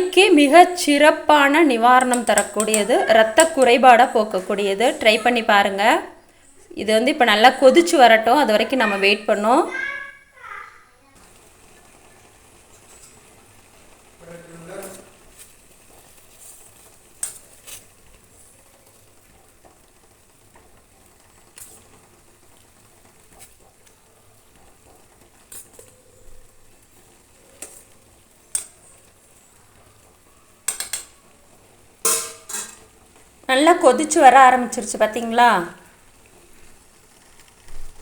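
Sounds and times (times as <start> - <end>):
soup pot hissing and popping: 0.0 - 38.0.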